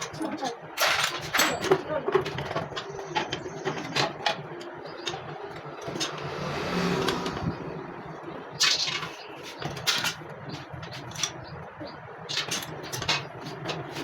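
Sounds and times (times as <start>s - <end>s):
hand tools clicking and knocking: 0.0s - 7.7s, 8.6s - 14.0s.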